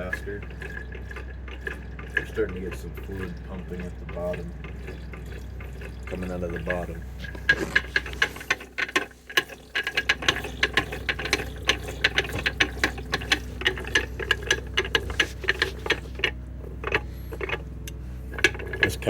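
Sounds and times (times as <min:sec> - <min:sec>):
gearbox gears clicking: 0:00.0 - 0:19.0.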